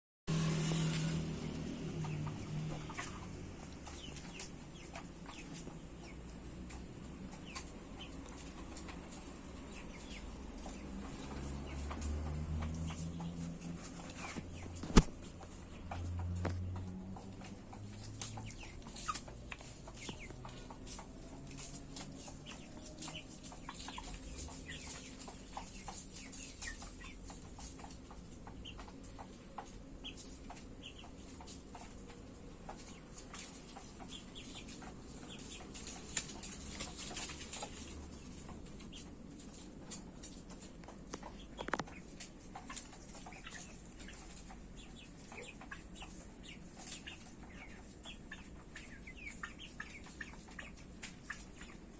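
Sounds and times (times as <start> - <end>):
chickens clucking: 0.4 - 51.9.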